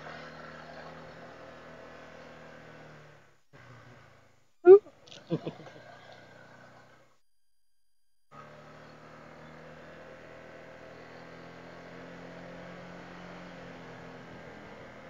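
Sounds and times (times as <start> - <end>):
scooter engine cruising: 0.0 - 7.1, 8.4 - 15.0.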